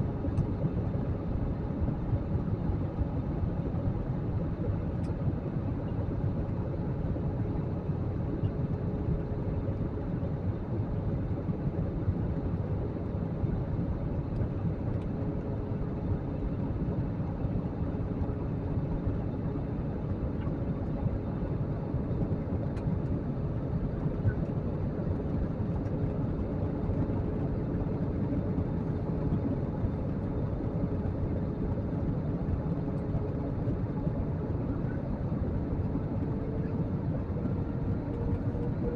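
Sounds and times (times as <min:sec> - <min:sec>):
jet cabin engine drone: 0:00.0 - 0:38.9.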